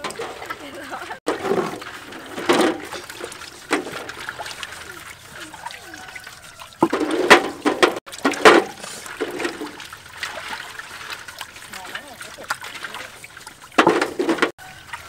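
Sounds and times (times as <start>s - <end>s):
water dribbling and splashing: 0.0s - 15.0s.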